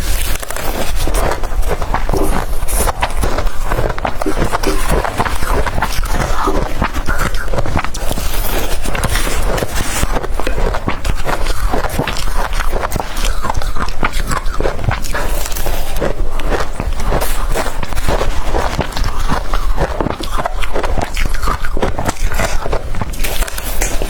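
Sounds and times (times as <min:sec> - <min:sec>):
crushed ice being chewed: 0:00.0 - 0:24.0.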